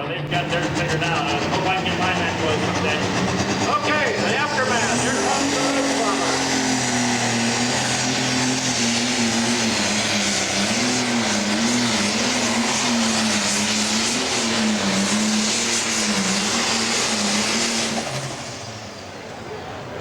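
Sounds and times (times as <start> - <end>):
diesel engine running hard: 0.0 - 20.0.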